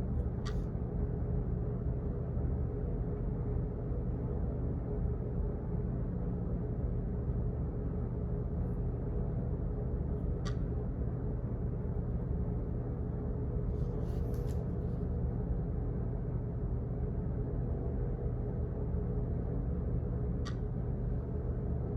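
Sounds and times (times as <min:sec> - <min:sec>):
office background hum: 0:00.0 - 0:21.9.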